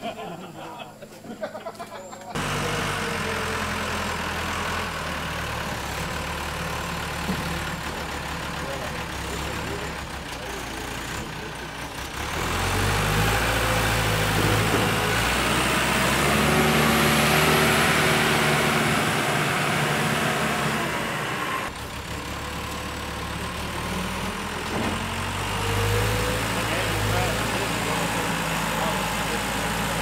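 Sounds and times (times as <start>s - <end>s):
diesel engine running under load: 2.3s - 30.0s.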